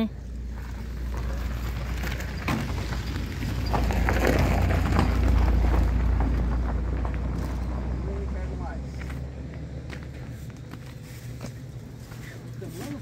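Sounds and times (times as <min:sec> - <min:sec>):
crackling rustles and crunches: 0:00.2 - 0:13.0.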